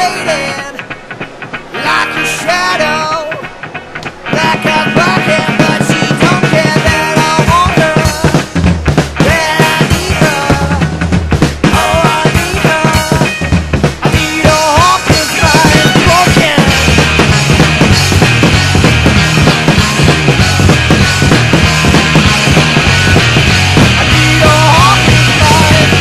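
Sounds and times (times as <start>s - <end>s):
rock music with drums: 0.0s - 26.0s.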